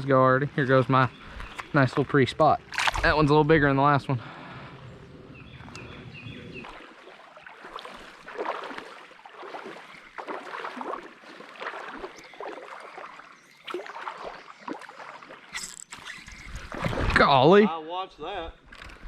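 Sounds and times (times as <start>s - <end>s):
creek water splashing: 0.0s - 18.0s.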